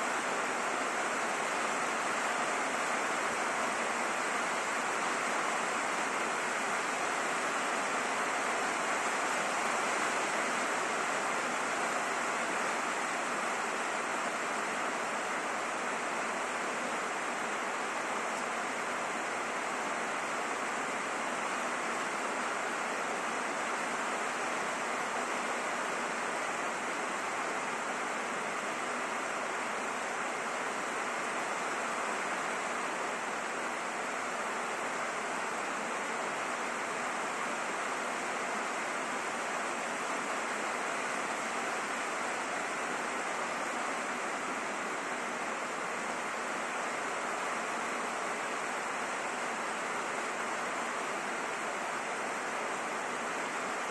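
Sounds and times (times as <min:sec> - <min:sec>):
rain on a roof: 0:00.0 - 0:53.9.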